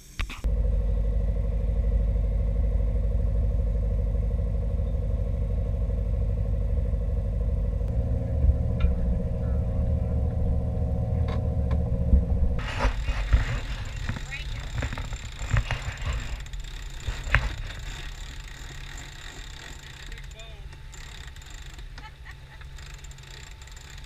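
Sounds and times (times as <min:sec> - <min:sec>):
boat engine rumbling: 0:00.4 - 0:24.0.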